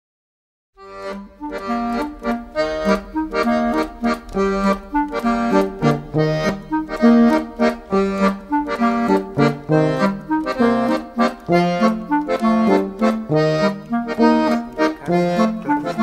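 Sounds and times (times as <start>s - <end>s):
bouncy instrumental music: 0.8s - 16.0s.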